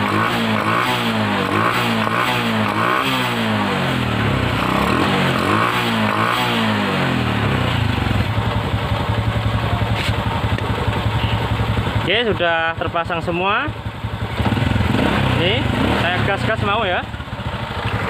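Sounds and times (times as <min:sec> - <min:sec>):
motorcycle engine revving: 0:00.0 - 0:18.0
motorcycle engine idling: 0:00.1 - 0:18.0.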